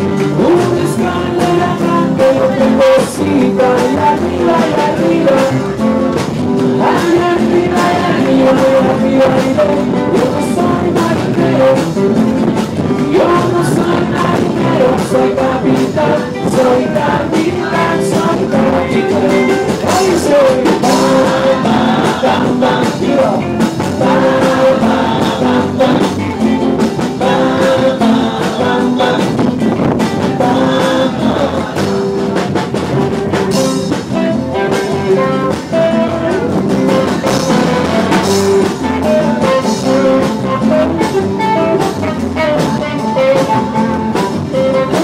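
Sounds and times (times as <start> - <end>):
guitars: 0.0 - 45.0
live band playing: 0.0 - 45.0
man singing: 0.0 - 45.0.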